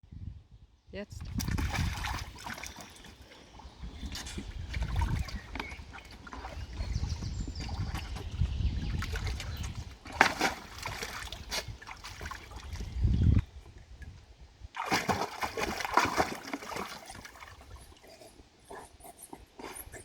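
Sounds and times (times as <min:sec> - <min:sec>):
water splashing and sloshing: 0:01.2 - 0:20.0.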